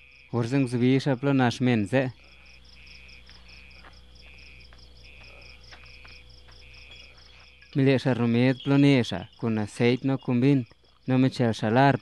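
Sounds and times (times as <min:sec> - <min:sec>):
faint steady hum: 0:00.0 - 0:12.0
high insect chirp: 0:00.0 - 0:12.0
lower insect chirp: 0:00.0 - 0:12.0.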